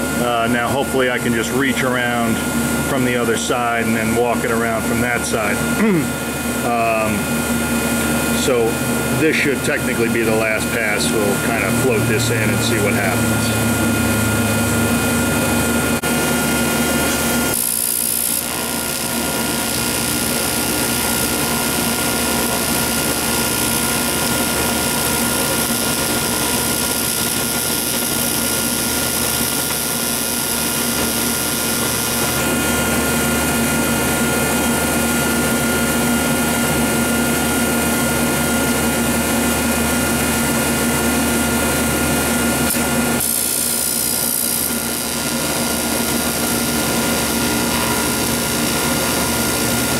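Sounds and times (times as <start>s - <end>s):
welding arc buzzing and hissing: 0.0s - 49.9s.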